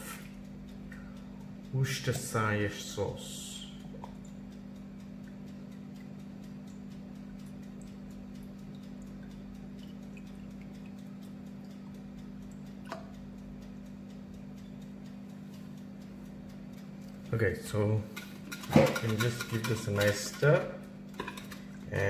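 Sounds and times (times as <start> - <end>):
faint regular ticking: 0.0 - 22.0
steady low hum: 0.0 - 22.0.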